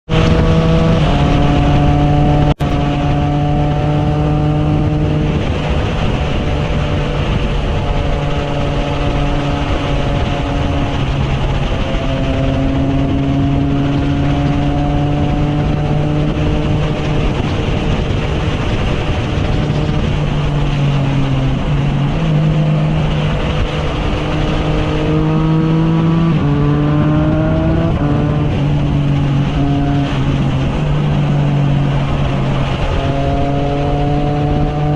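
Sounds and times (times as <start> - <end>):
motorcycle engine while riding: 0.0 - 34.9.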